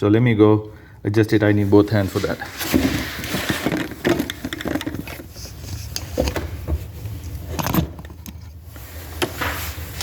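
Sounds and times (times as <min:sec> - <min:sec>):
tool handling noises: 0:01.8 - 0:10.0.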